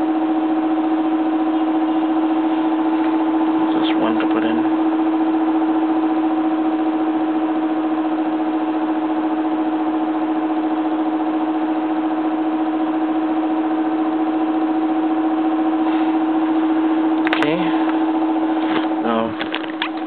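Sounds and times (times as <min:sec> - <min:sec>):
electric blower motor humming: 0:00.0 - 0:20.0.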